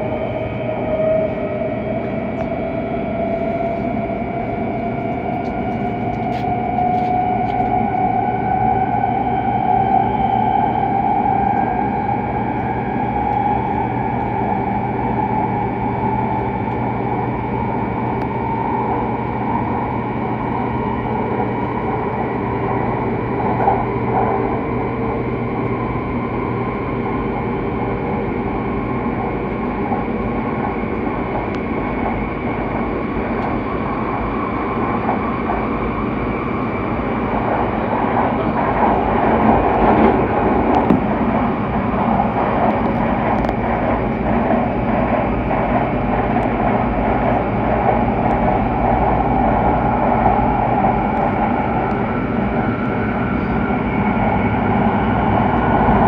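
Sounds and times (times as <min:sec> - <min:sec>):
air rushing outside train: 0:00.0 - 0:56.0
train wheels on rail: 0:00.0 - 0:56.0.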